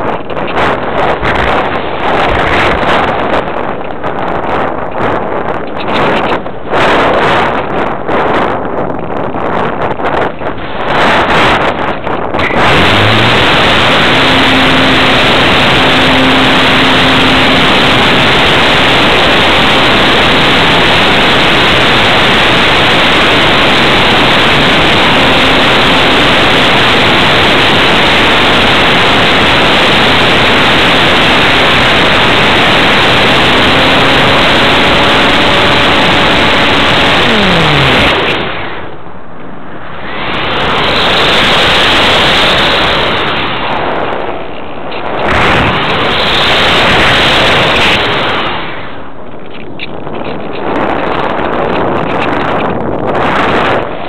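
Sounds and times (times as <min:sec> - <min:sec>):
electric motor and propeller whine: 0:00.0 - 0:54.0
loud rushing airflow: 0:00.0 - 0:54.0.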